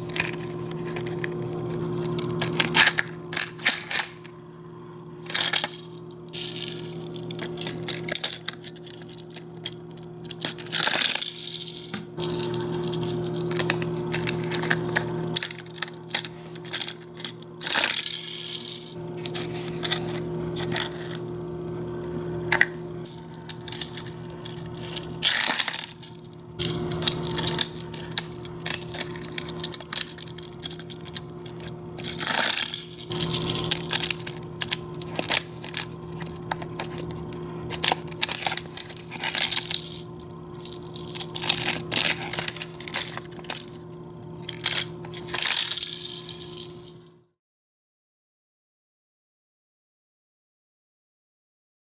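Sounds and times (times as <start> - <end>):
plastic toy pieces clattering: 0.0 - 4.3, 5.2 - 21.2, 22.5 - 47.0
low steady hum: 0.0 - 47.3.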